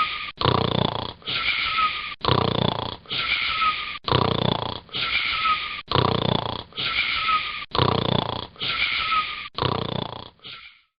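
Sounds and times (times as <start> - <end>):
boy snoring with whistling wheeze: 0.0 - 10.9.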